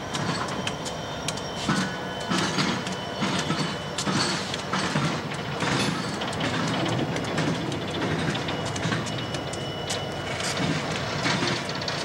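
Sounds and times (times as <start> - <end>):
diesel locomotive engines running: 0.0 - 12.0
wheels clanking over rails: 0.0 - 12.0.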